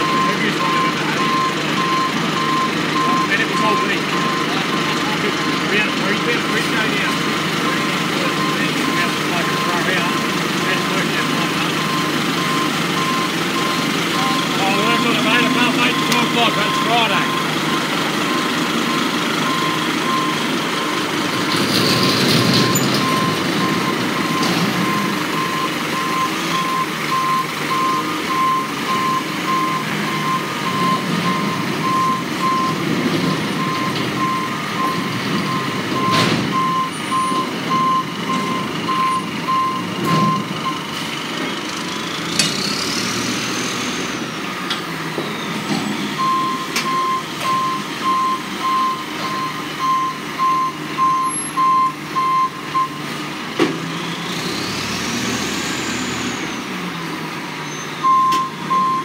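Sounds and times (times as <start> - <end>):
reversing alarm beeping: 0.0 - 41.0, 45.2 - 53.1, 57.7 - 59.0
diesel engine running: 0.0 - 59.0.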